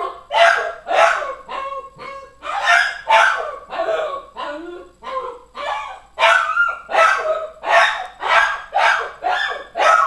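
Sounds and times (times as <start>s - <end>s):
dog yelping: 0.0s - 10.0s.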